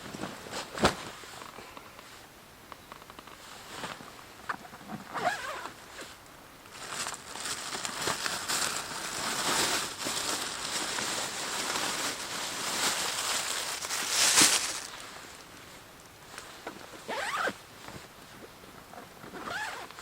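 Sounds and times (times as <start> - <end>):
fabric rustling and crinkling: 0.0 - 2.3, 2.9 - 20.0.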